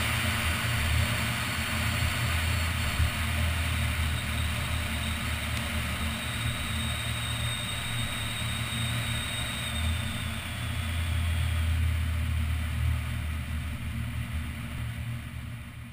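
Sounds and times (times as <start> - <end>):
faint high whine: 0.0 - 15.9.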